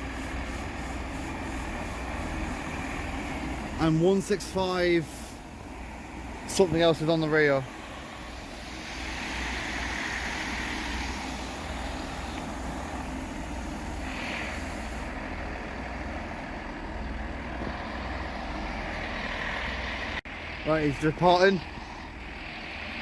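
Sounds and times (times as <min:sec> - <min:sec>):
hiss of air: 0:00.0 - 0:20.6, 0:21.3 - 0:23.0
diesel engines idling: 0:00.0 - 0:23.0.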